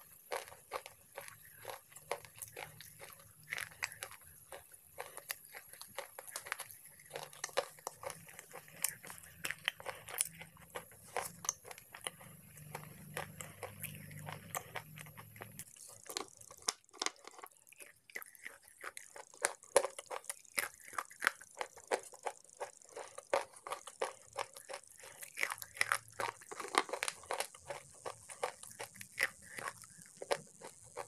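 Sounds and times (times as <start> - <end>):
slate crunching between teeth: 0.0 - 31.0
wet chewing: 0.0 - 31.0.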